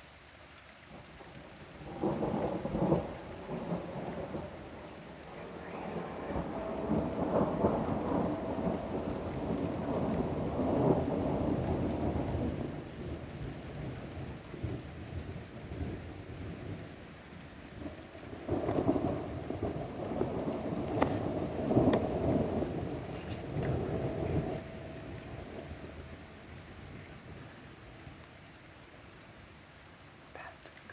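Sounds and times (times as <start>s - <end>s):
steady rain: 0.0s - 30.9s
thunder rumbling: 0.9s - 29.8s.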